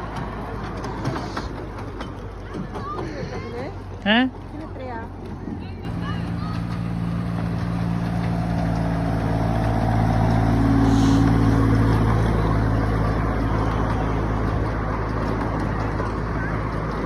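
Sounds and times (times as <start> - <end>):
train engine passing: 0.0 - 17.0.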